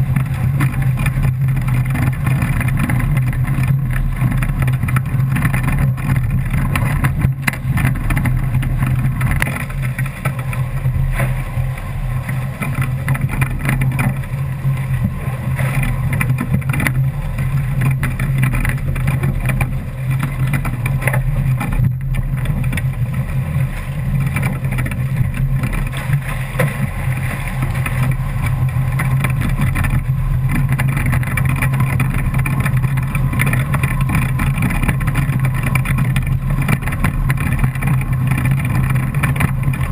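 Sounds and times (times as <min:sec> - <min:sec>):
water rushing past hull: 0:00.0 - 0:39.9.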